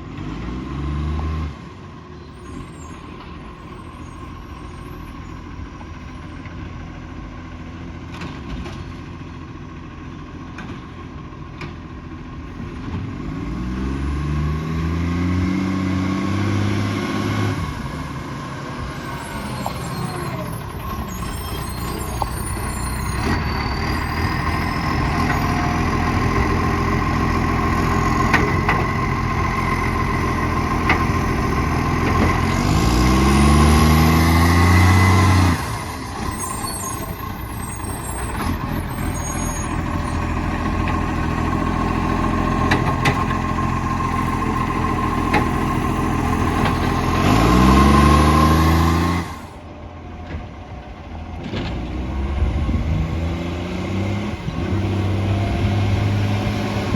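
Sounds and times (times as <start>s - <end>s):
diesel engine running with exhaust leak: 1.7s - 13.9s, 16.1s - 56.9s.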